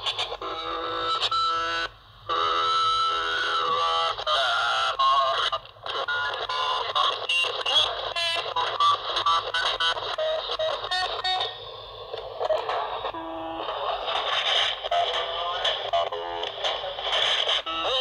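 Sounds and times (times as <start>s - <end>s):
muffled choppy tape playback: 0.0s - 18.0s.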